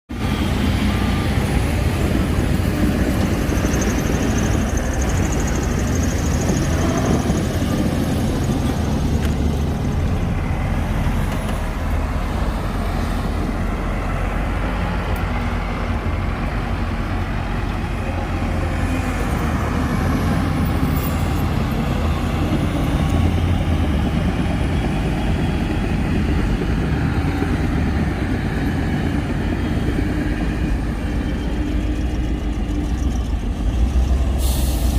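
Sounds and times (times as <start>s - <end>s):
heavy diesel machinery rumbling: 0.1s - 34.9s.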